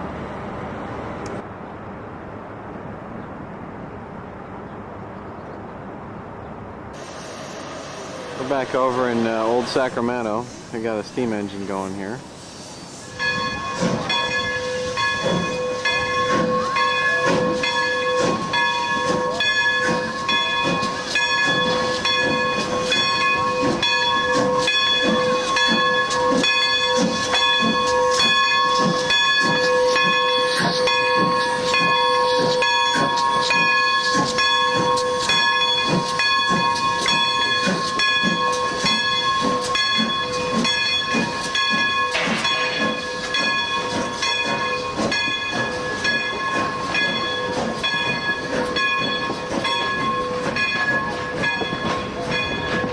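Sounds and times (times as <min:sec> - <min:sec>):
steam hiss: 0:07.0 - 0:52.9
steam locomotive chuffing: 0:07.0 - 0:52.9.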